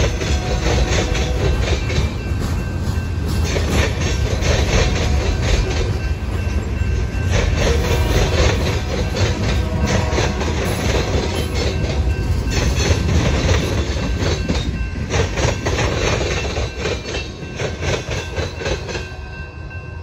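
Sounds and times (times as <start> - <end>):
train wheels clacking over rail joints: 0.0 - 19.1
crossing bell ringing: 0.0 - 20.0.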